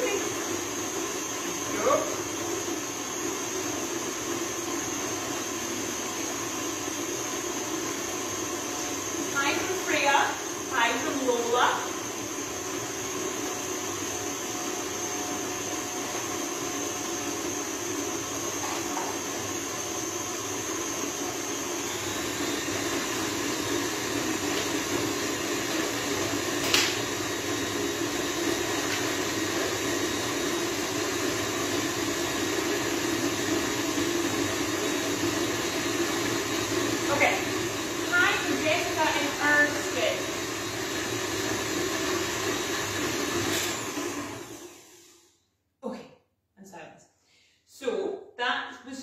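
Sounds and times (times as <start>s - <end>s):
electric stand mixer running: 0.0s - 45.2s.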